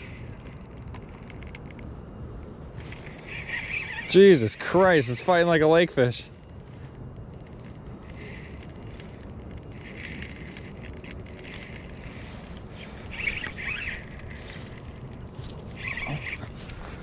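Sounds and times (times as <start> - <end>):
fishing reel and drag: 0.0 - 1.8, 2.8 - 17.0
steady low rumble: 0.0 - 17.0.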